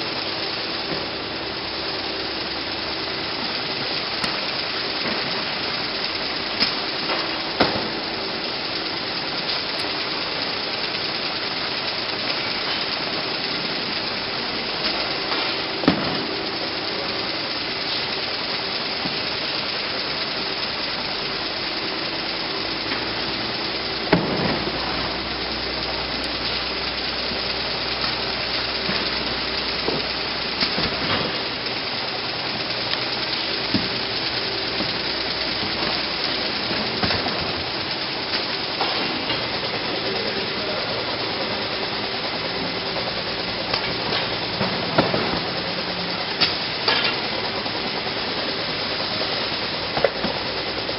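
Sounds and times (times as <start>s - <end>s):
conveyor machine noise: 0.0s - 50.9s.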